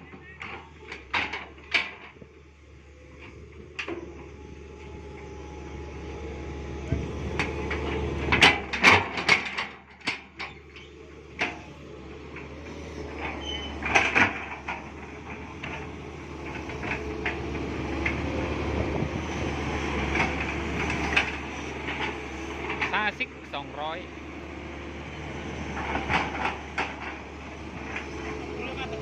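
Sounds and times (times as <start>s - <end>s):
excavator engine running: 0.0s - 29.0s.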